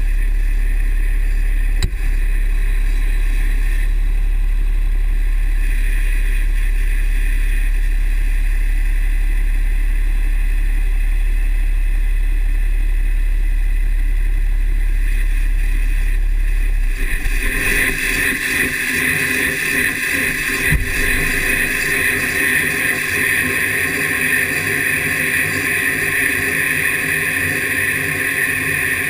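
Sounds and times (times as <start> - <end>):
diesel truck engine drone: 0.0 - 29.0.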